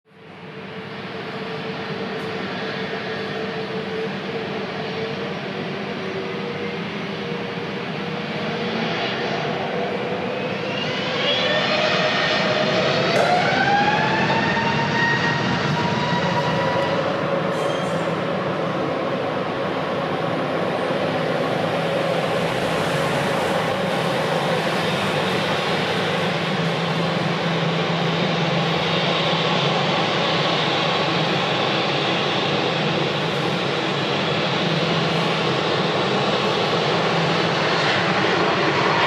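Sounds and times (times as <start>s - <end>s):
jet engines spooling up: 0.2s - 39.0s.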